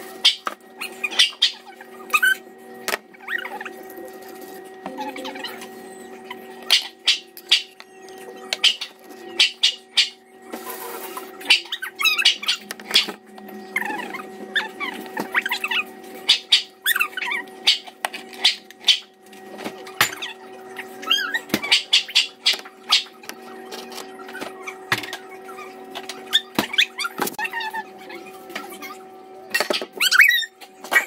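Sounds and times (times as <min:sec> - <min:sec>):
steady low hum: 0:00.0 - 0:30.1
dogs whining and whimpering: 0:00.2 - 0:31.0.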